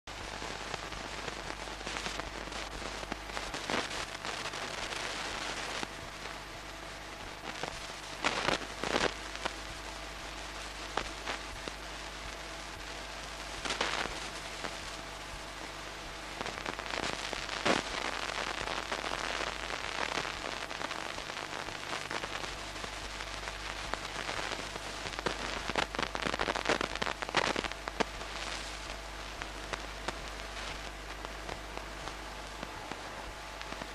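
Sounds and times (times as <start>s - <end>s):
crackling and clicks: 0.1s - 33.9s
faint low hum: 0.1s - 33.9s
film soundtrack hiss: 0.1s - 33.9s.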